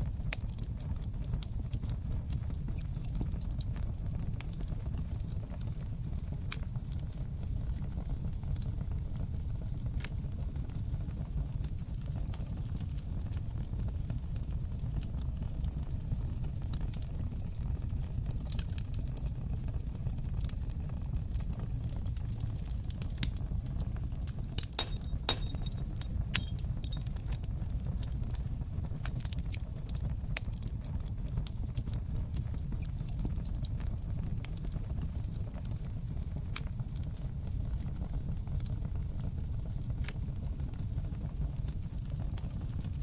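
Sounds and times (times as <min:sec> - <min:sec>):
fire crackling and popping: 0:00.0 - 0:43.0
wood fire rumbling: 0:00.0 - 0:43.0.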